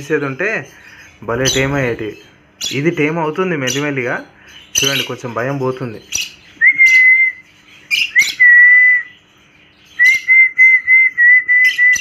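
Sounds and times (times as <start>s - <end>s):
small cage birds chirping: 0.0s - 12.0s.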